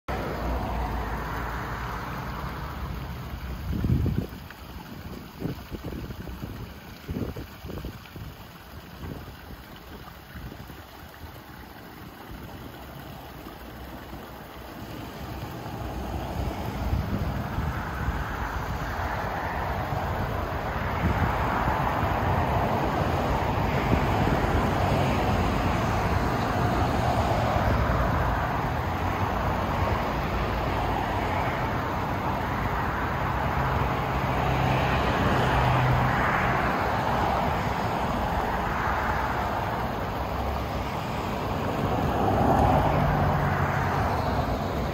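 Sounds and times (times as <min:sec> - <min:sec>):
vehicles passing: 0:00.0 - 0:44.9
low engine hum: 0:00.1 - 0:44.9.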